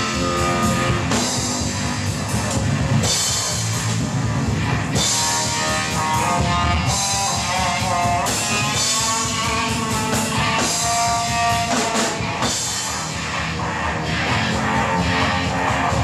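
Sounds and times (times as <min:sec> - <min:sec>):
drum kit: 0:00.0 - 0:16.0
electric guitar: 0:00.0 - 0:16.0.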